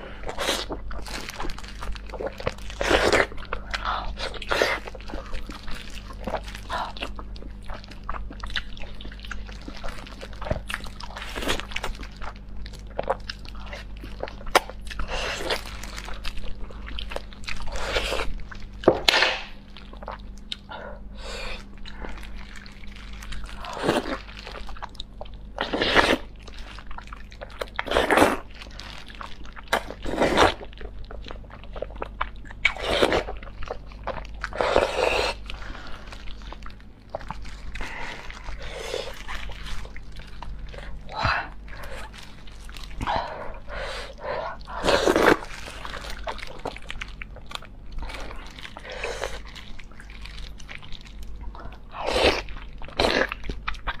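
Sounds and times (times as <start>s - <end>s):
wet chewing and sucking: 0.1s - 54.0s.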